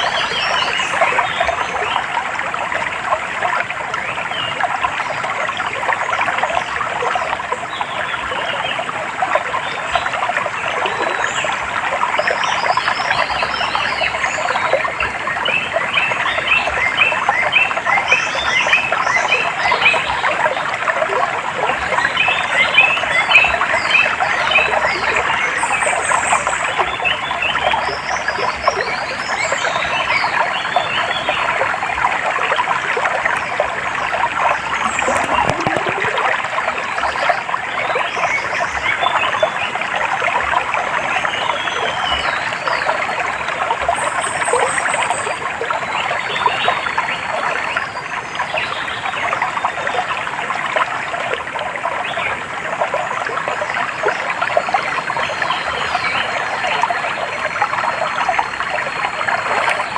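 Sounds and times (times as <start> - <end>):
running stream: 0.0 - 59.9.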